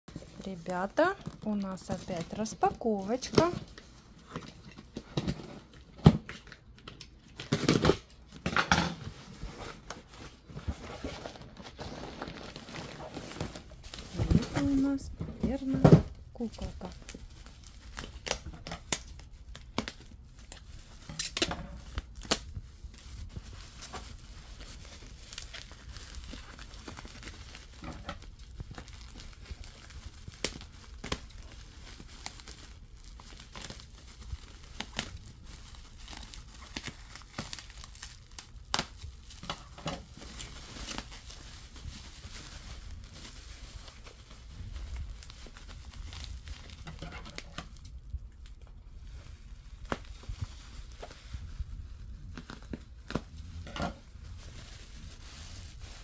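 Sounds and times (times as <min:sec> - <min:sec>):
bubble wrap crinkling and tearing: 0:00.1 - 0:56.0.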